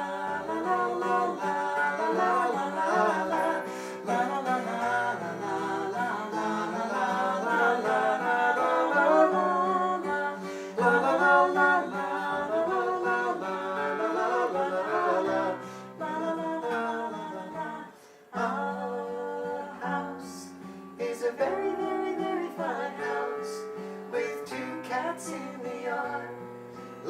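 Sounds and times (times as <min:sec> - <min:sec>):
song with singing: 0:00.0 - 0:26.5.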